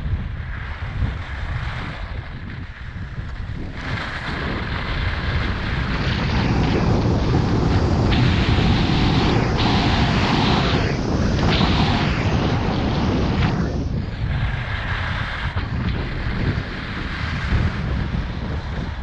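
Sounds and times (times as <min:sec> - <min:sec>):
wind buffeting microphone: 0:00.0 - 0:19.0
skis scraping on snow: 0:00.5 - 0:19.0.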